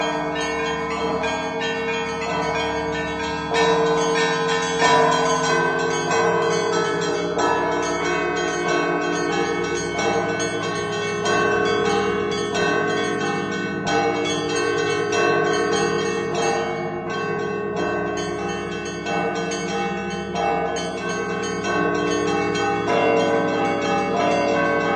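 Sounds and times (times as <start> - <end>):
deep bells striking: 0.0 - 24.9
small high bells chiming: 0.0 - 24.9.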